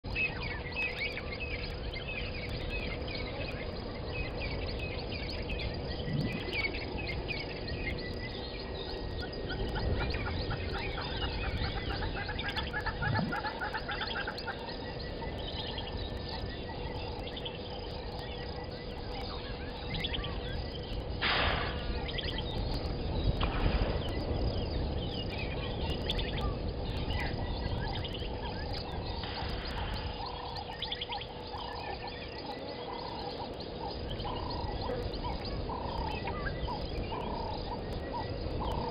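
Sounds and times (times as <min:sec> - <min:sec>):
faint steady hum: 0:00.0 - 0:38.9
low background rumble: 0:00.0 - 0:38.9
birds chirping and calling: 0:00.1 - 0:38.9
repeated bird call notes: 0:00.1 - 0:38.9.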